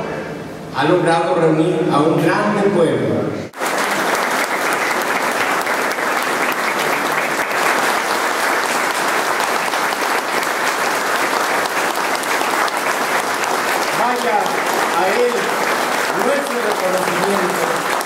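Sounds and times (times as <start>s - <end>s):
large audience applauding: 3.5s - 18.0s.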